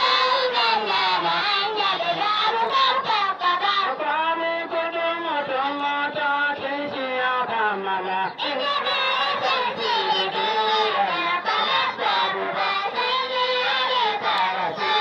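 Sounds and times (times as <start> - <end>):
voices singing over loudspeaker: 0.0 - 15.0.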